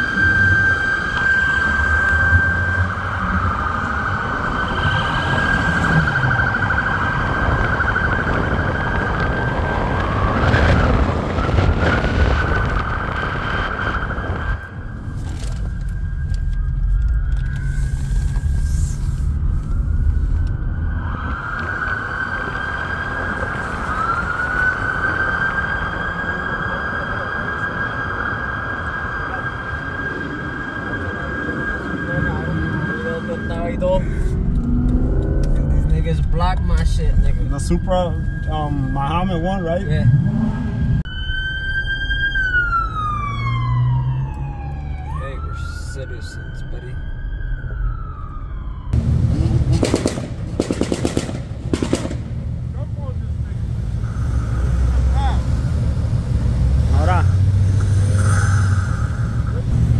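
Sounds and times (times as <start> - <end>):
car engines rumbling: 0.0 - 59.9
siren: 0.0 - 59.9.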